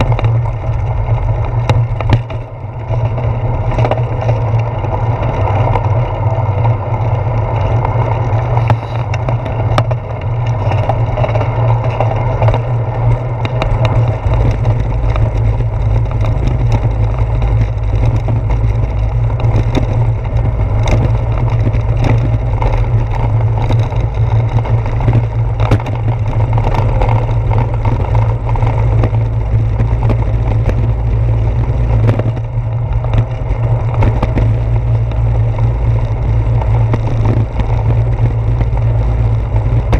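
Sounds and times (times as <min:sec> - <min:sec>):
tyres clicking over paving: 0:00.0 - 0:39.9
wind and road rumble: 0:00.0 - 0:39.9.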